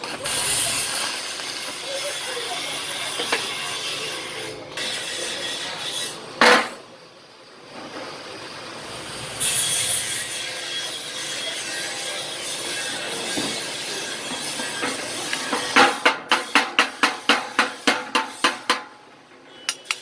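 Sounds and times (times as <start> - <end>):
metal rasping and scraping: 0.0 - 6.8, 8.8 - 19.0.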